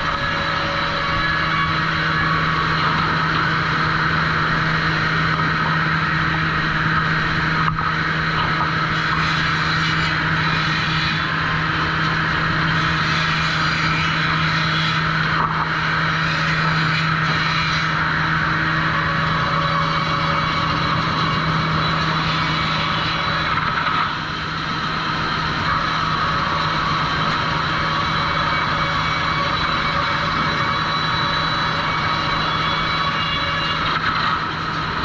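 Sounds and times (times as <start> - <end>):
low motor hum: 0.0 - 35.0
rushing mechanical noise: 0.0 - 35.0.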